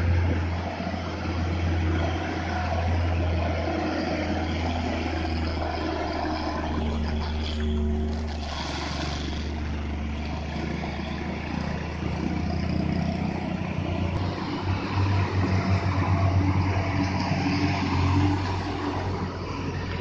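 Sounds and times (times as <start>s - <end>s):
truck engine passing by: 0.0s - 20.0s
truck engine pulling away: 0.0s - 20.0s.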